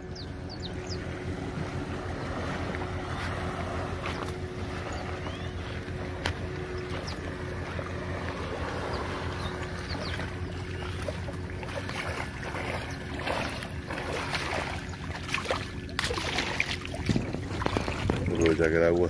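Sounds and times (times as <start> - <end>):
faint steady hum: 0.0 - 19.0
small waves lapping: 0.0 - 19.0
wind rumbling on microphone: 0.0 - 19.0.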